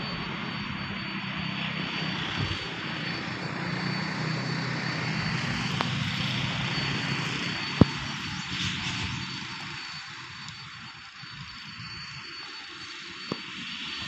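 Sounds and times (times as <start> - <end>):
diesel locomotive engine drone: 0.0 - 14.0.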